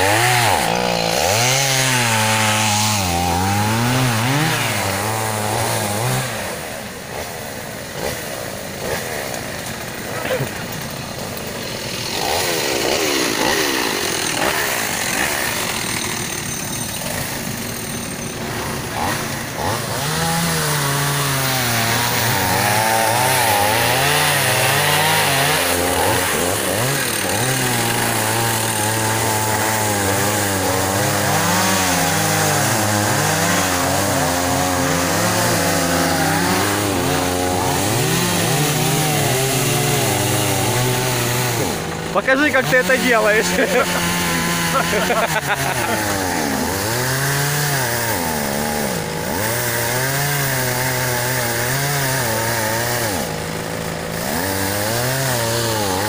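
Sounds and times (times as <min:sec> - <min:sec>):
chainsaw cutting: 0:00.0 - 0:56.0.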